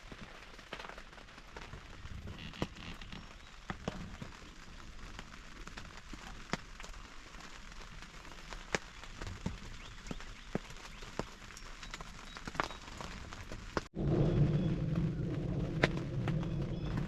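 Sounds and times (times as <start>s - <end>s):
heavy raindrops tapping: 0.0s - 17.0s
steady rainfall: 0.0s - 17.0s.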